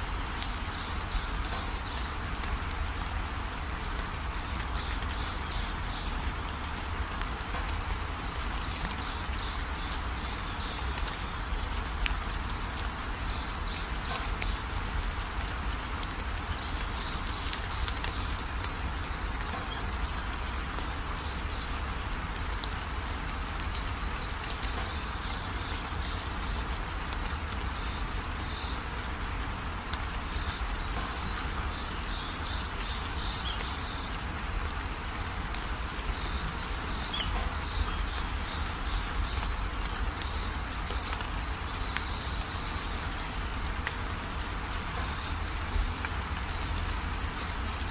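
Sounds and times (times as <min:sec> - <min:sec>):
small birds chirping: 0:00.1 - 0:47.9.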